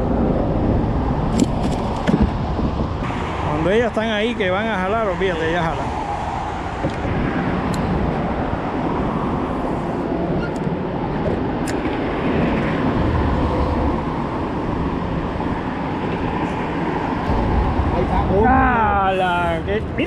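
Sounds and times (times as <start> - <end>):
traffic rumble on bridge: 0.0 - 20.0.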